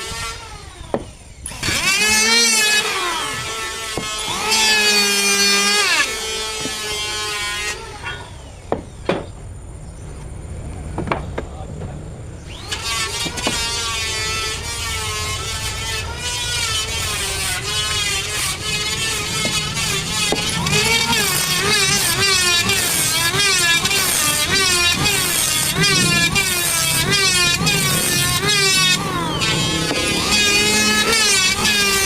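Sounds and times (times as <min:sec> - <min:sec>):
woodworking machine whining: 0:00.0 - 0:32.0.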